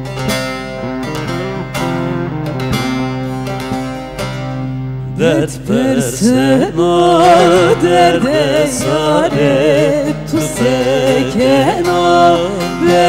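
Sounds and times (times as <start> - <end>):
plucked lute accompaniment: 0.0 - 5.8, 7.3 - 13.0
person singing folk melody: 0.0 - 13.0.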